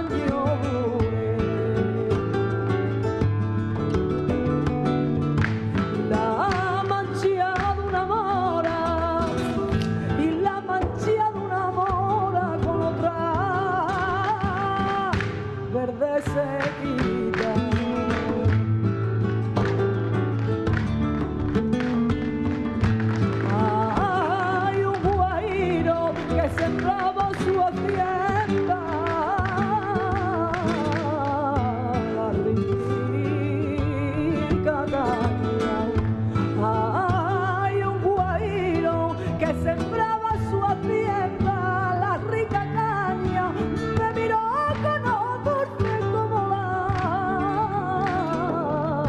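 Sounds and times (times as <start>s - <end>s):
flamenco music: 0.0s - 49.0s
guitar: 0.0s - 49.0s
sharp percussive taps: 3.1s - 48.9s.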